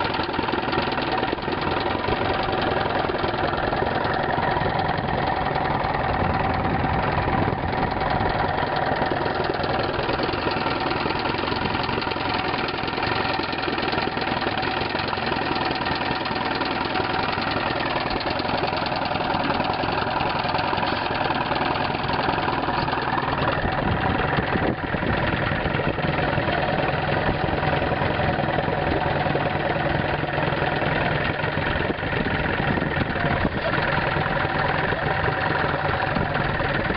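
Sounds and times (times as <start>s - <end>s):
outboard motor idling: 0.0s - 36.9s.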